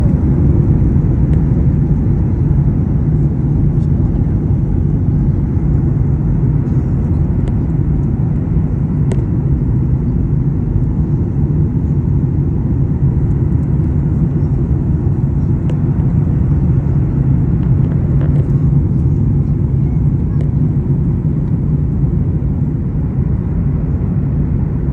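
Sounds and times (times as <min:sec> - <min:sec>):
airliner engine rumble: 0:00.0 - 0:24.9.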